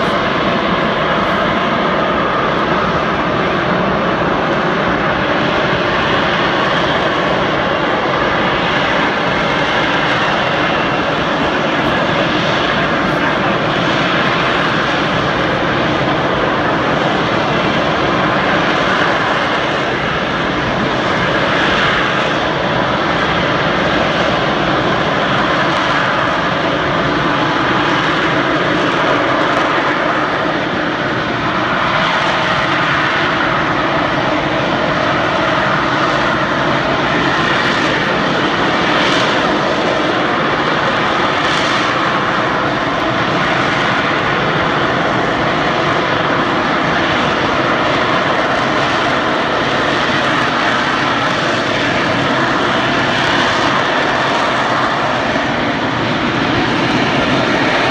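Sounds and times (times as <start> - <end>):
jet engine roaring: 0.0 - 57.9.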